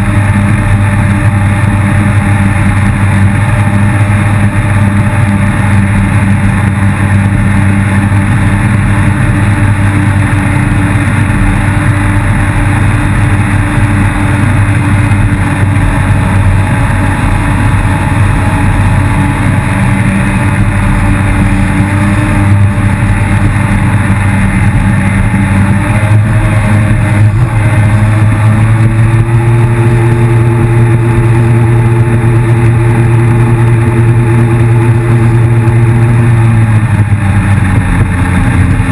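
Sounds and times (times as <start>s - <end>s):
jet ski engine running: 0.0s - 38.9s.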